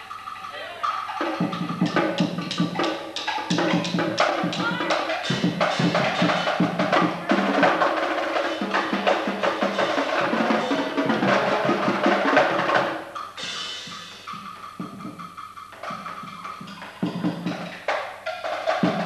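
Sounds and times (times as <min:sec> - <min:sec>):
snare and tenor drums playing: 0:00.0 - 0:19.0.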